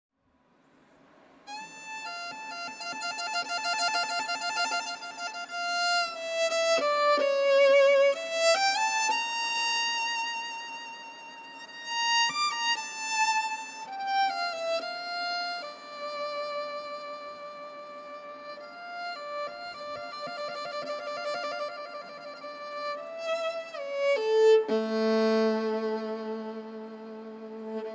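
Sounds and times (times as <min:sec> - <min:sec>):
solo violin melody: 0:01.4 - 0:27.9.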